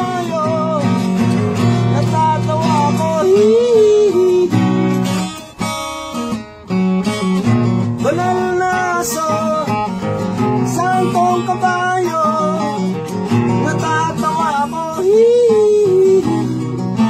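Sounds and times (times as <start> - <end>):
man singing: 0.0 - 5.1, 7.9 - 17.0
acoustic guitar strummed: 0.0 - 17.0.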